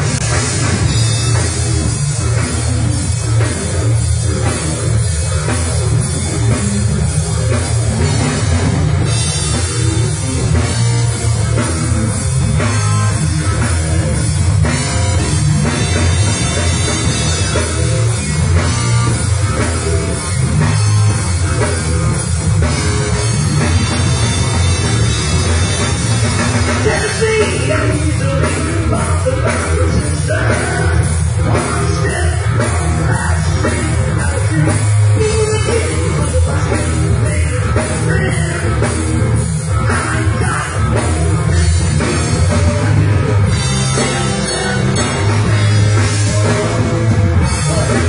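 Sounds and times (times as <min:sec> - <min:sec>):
heavy metal band playing: 0:00.0 - 0:48.0.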